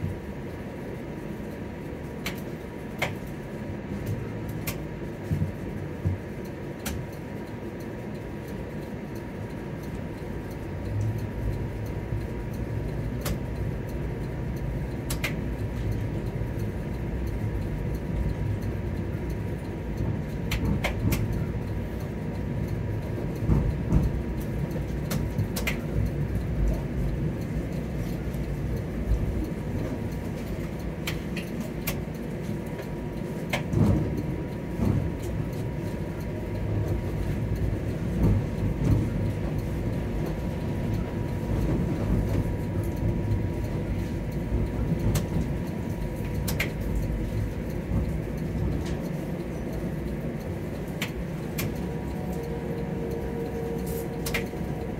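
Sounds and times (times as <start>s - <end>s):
streetcar rumbling on tracks: 0.0s - 54.9s.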